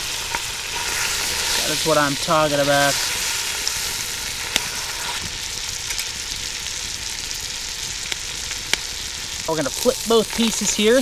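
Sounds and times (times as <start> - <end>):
fish sizzling in butter: 0.0 - 11.0.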